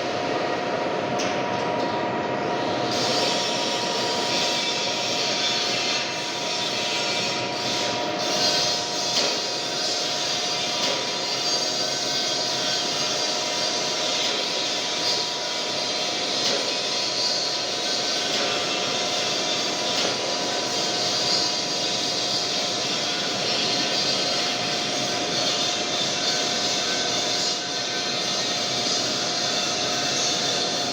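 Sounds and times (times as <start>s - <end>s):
metal lathe running: 2.6s - 30.9s.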